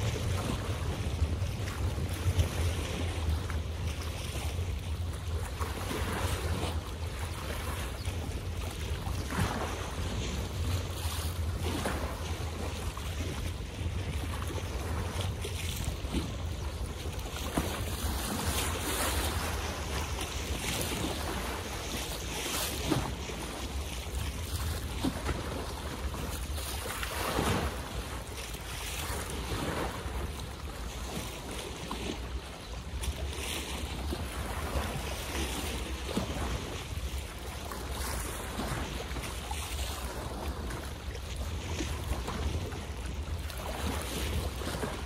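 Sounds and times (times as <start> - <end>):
steady wash of water: 0.0 - 45.0
water lapping and splashing: 0.0 - 45.0
wind rumbling on microphone: 0.0 - 45.0.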